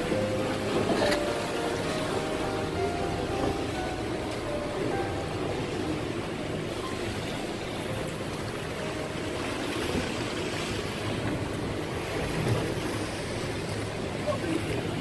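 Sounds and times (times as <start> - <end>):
boat engine running: 0.0 - 15.0
water splashing around hull: 0.0 - 15.0
wind: 0.0 - 15.0.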